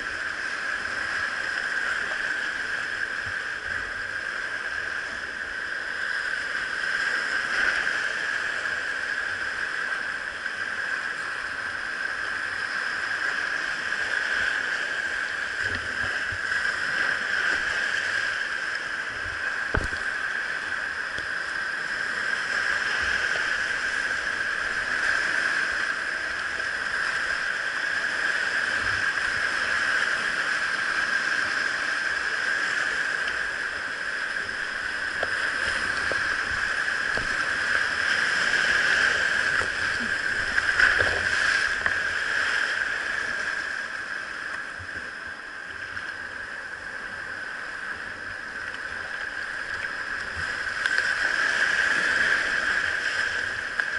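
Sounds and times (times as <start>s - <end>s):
water splashes: 0.0s - 53.9s
whitewater rushing: 0.0s - 53.9s.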